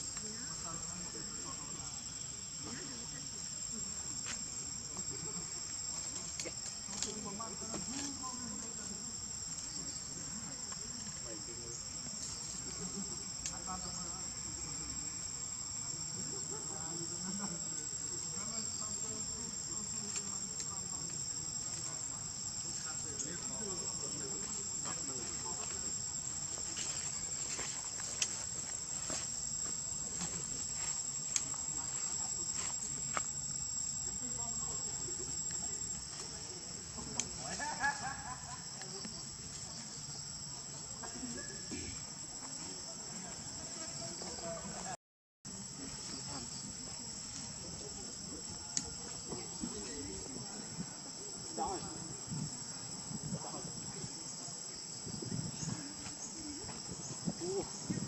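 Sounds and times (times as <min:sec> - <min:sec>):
insect chorus drone: 0:00.0 - 0:58.0.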